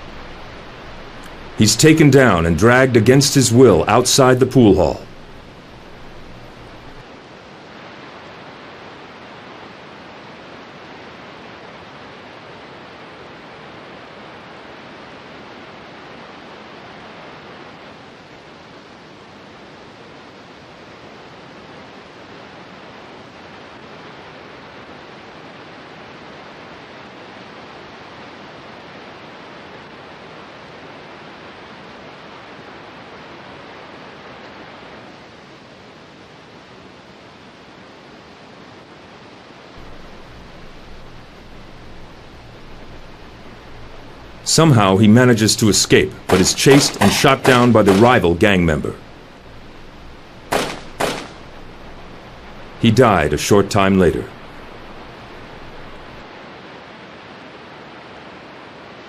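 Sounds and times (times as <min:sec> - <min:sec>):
steady recording hiss: 0:00.0 - 0:59.0.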